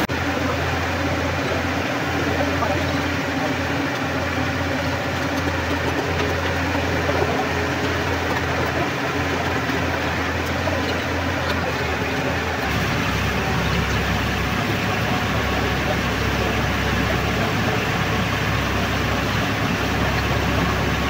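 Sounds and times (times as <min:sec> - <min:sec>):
constant hiss: 0:00.0 - 0:21.0
heavy engine running: 0:00.0 - 0:21.0.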